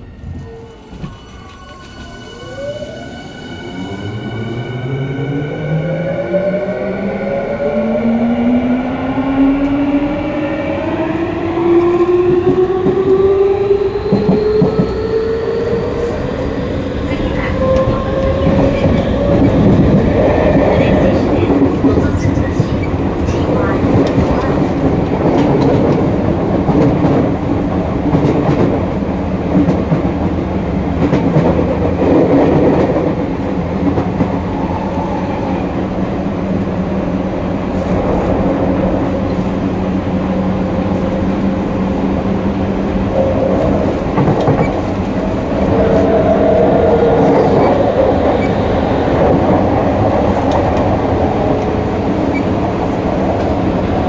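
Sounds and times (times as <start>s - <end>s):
train wheels rumbling on rails: 3.7s - 54.0s.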